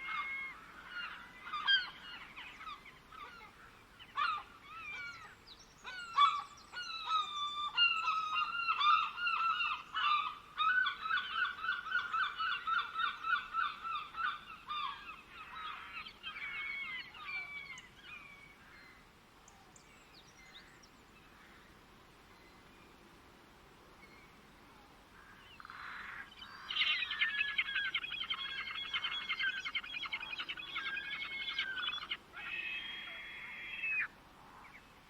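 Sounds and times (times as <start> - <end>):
birds calling: 0.0 - 21.7, 25.2 - 34.9.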